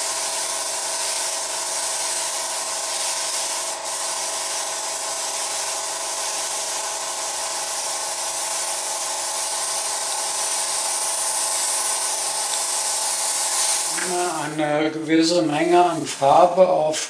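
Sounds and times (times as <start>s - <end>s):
airbrush spraying hiss: 0.0s - 16.6s
compressor humming: 0.0s - 17.0s.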